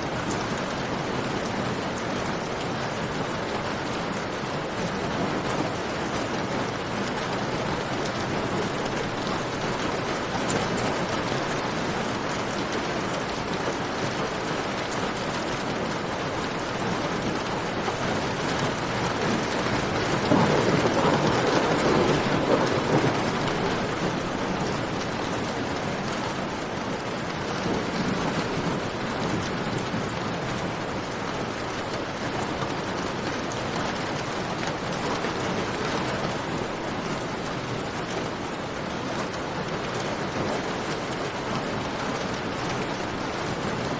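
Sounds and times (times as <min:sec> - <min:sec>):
steady rain falling: 0:00.0 - 0:43.9
thunder rumble: 0:03.2 - 0:43.9.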